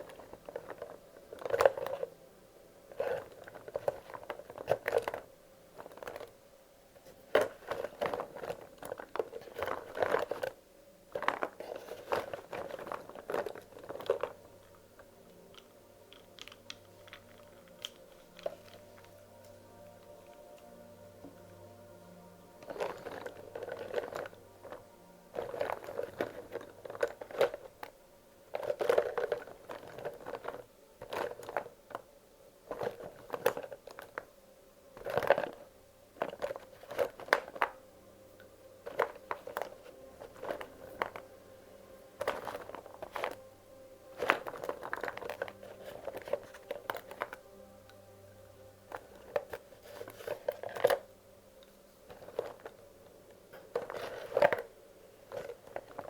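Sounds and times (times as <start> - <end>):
wax crayons clicking and clattering: 0.0 - 2.2, 2.9 - 20.7, 21.3 - 37.8, 38.4 - 48.0, 48.6 - 56.0.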